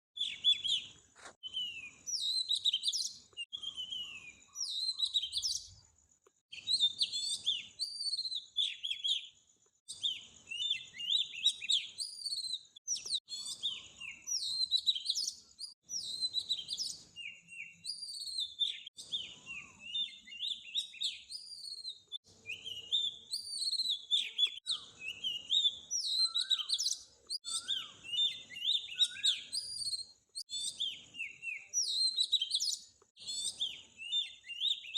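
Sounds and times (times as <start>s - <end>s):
small birds chirping and singing: 0.1s - 34.9s.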